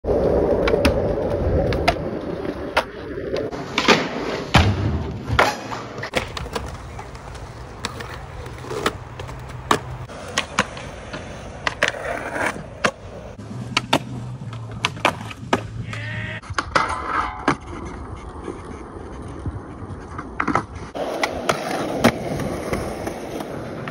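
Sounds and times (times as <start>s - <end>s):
skateboard wheels rumbling on concrete: 0.0s - 23.9s.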